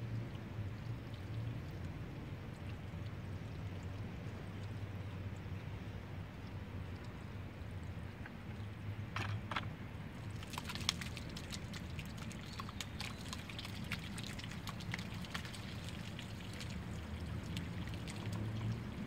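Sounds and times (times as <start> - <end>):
small wet clicks and drips: 0.0 - 19.0.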